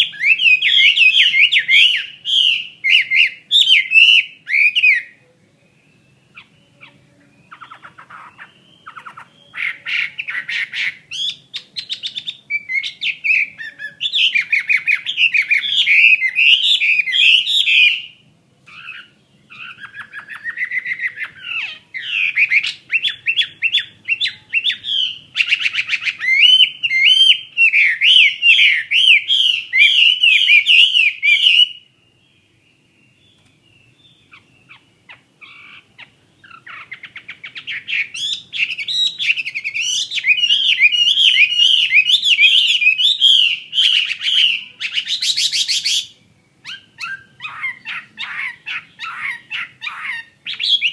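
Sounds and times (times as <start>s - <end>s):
bird singing whistled trills: 0.0s - 50.9s.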